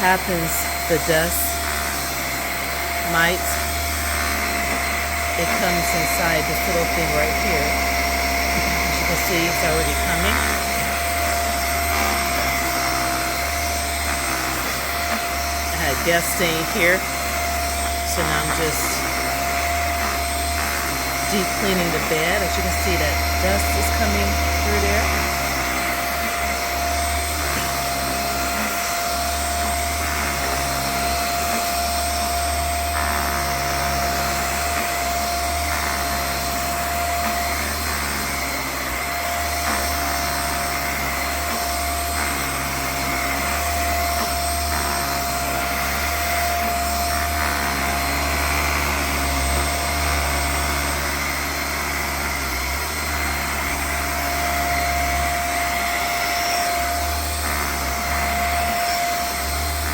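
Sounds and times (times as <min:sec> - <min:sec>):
handheld vacuum running: 0:00.0 - 0:59.9.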